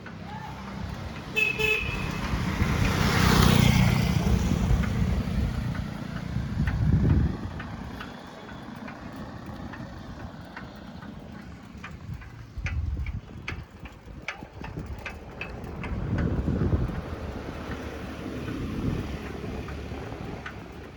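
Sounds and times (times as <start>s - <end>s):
background traffic: 0.0s - 20.9s
motor vehicle running close by: 0.0s - 20.9s
wind: 0.0s - 20.9s.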